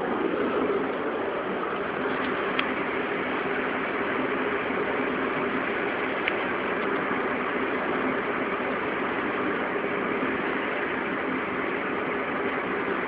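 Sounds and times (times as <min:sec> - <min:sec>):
faint low wheel hub hum: 0:00.0 - 0:13.0.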